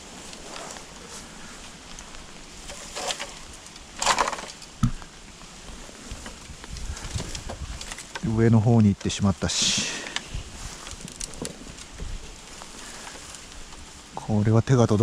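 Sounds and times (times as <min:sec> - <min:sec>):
bamboo branches rustling: 0:00.0 - 0:15.0.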